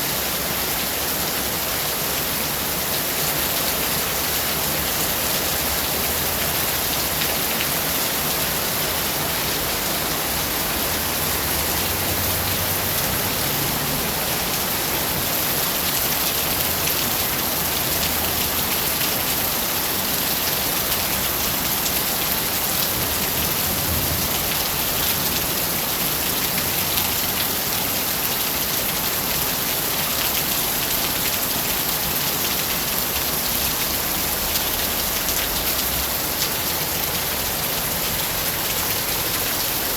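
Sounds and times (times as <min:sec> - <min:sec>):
dense rain pattering: 0:00.0 - 0:39.9.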